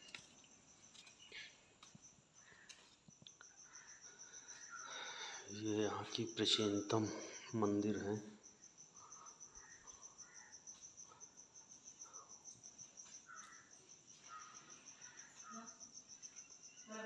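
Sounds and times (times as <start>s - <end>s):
faint cricket trilling: 0.0s - 17.0s.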